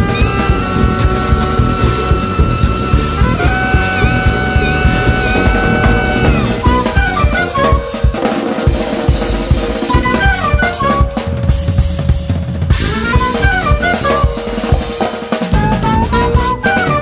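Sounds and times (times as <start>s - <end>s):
drum kit beat: 0.0s - 17.0s
gliding lead melody: 0.0s - 17.0s
gypsy jazz band music: 0.0s - 17.0s.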